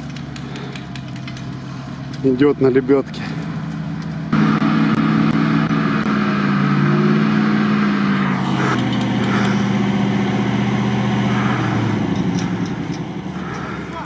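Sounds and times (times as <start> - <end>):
truck engine under load: 0.0 - 14.0.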